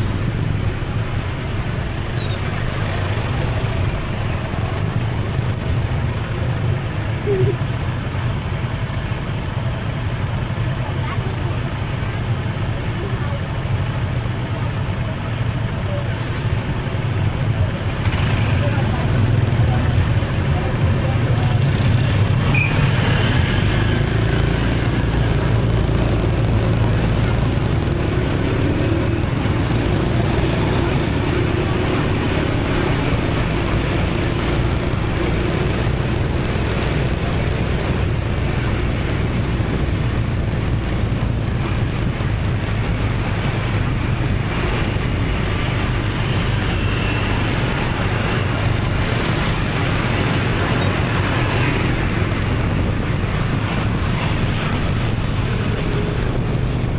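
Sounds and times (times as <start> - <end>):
motorbike engine running: 0.0 - 56.9
surrounding motorbikes and cars: 0.0 - 56.9
wind and road noise: 0.0 - 56.9.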